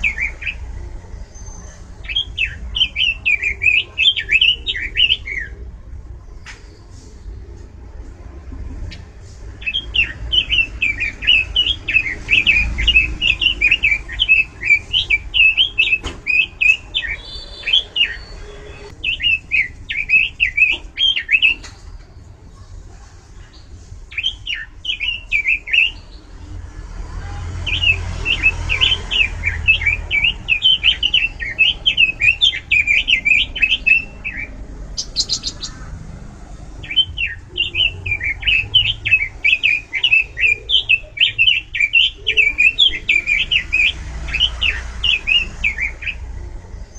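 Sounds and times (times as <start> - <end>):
bird warbling song: 0.0 - 5.6, 8.9 - 22.3, 23.5 - 26.4, 27.6 - 46.9.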